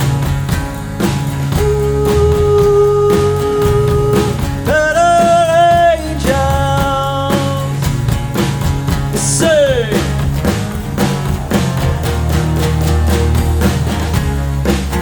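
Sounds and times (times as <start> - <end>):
punk rock band playing live: 0.0 - 15.0.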